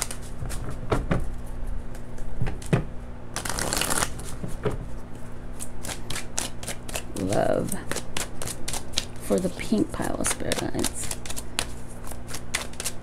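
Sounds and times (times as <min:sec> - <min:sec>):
cards being shuffled: 0:00.0 - 0:02.8, 0:03.4 - 0:05.0, 0:05.6 - 0:13.0.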